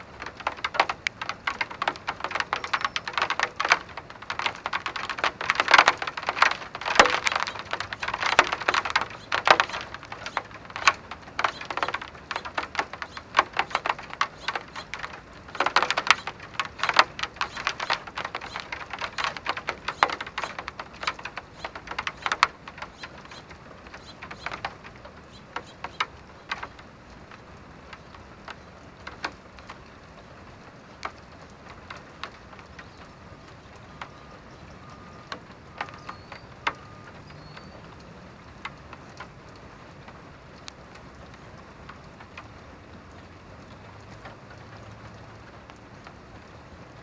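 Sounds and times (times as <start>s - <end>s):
raindrops on hard surface: 0.0s - 47.0s.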